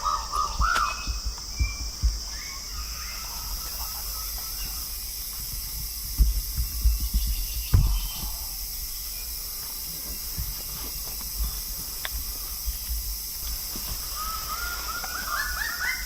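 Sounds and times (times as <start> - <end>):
birds calling: 0.0 - 16.0
insect hiss: 0.0 - 16.0.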